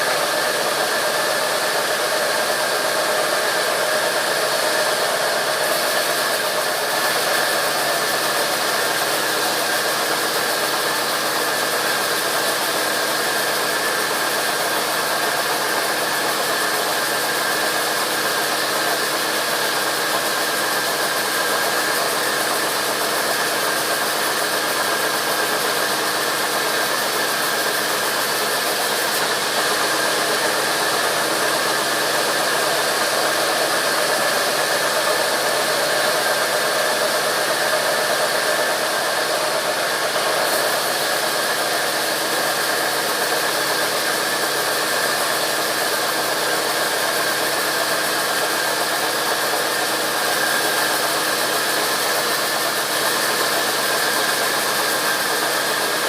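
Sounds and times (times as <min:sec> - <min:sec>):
saw whining: 0:00.0 - 0:56.0.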